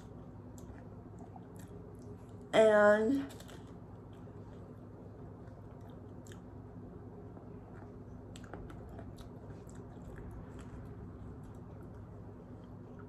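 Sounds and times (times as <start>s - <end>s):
person chewing pizza: 0.0s - 2.5s, 3.3s - 13.0s
steady low hum: 0.0s - 13.0s.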